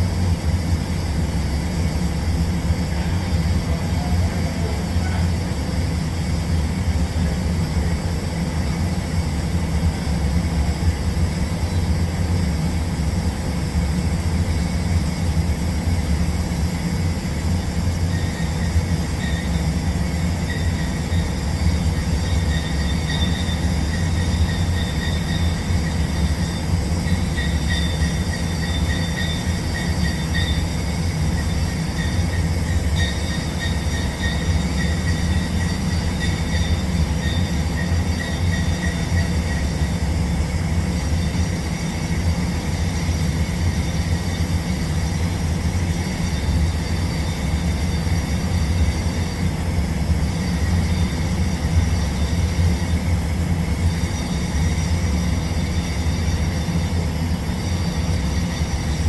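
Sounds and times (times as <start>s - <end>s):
faint high whine: 0.0s - 59.0s.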